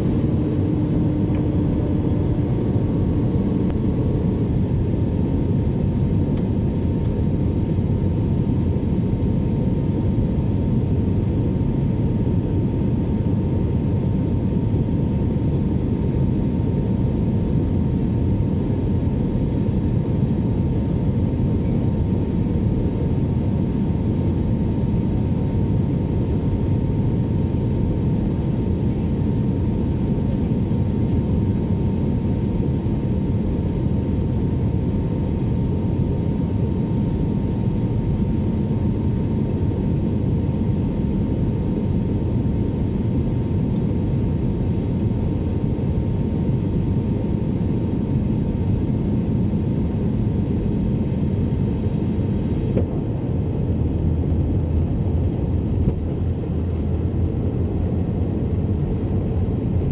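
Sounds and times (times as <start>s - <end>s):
faint steady whine: 0.0s - 59.9s.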